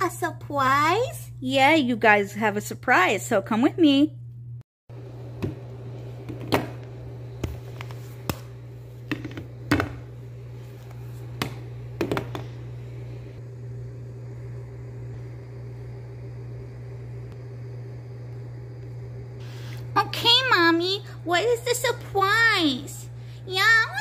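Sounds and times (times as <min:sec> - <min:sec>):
low hum: 0:04.0 - 0:24.0.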